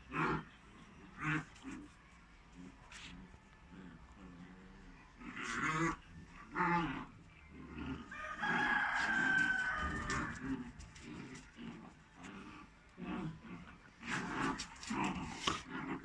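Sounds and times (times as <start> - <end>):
dogs growling: 0.0 - 16.0.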